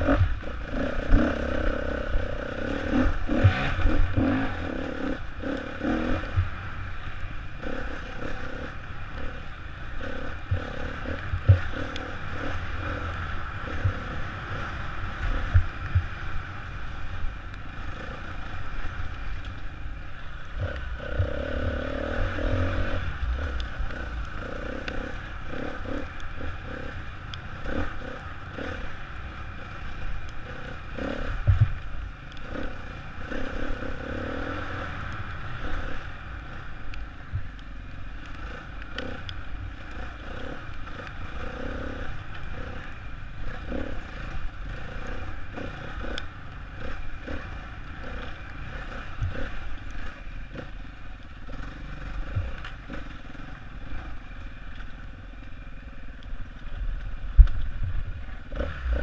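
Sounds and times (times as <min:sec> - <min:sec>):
dirt bike engine revving: 0:00.0 - 0:16.9, 0:20.2 - 0:31.8, 0:32.4 - 0:36.8, 0:38.4 - 0:54.5, 0:58.4 - 0:59.0
wind rumble on microphone: 0:00.0 - 0:59.0.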